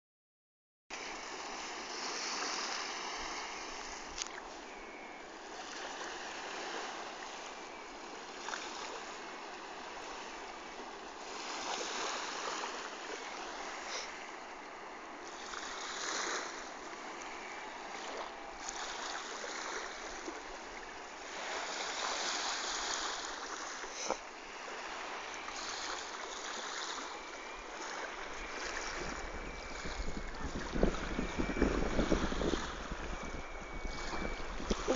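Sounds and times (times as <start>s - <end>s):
small waves lapping on sand: 0.9s - 34.9s
wind on microphone: 1.1s - 34.9s.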